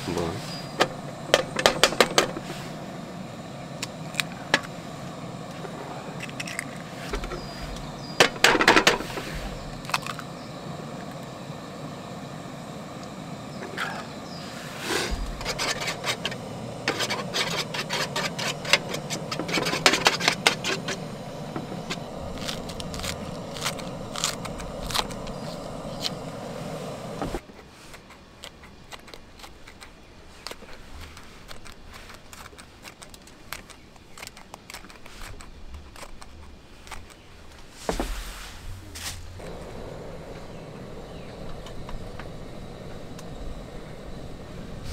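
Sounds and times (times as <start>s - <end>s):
egg frying and crackling: 0.7s - 37.7s.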